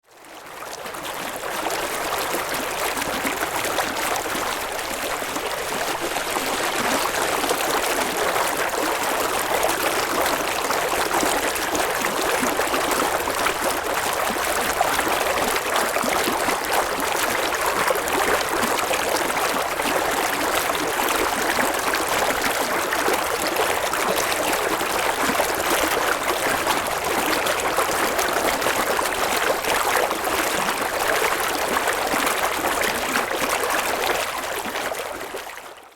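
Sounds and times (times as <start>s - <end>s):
stream water babbling: 0.1s - 35.9s.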